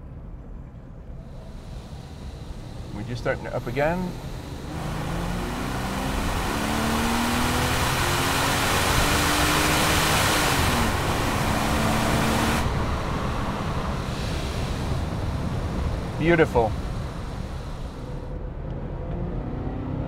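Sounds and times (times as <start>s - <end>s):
wind and road noise: 0.0s - 20.0s
car engine accelerating hard: 1.2s - 20.0s.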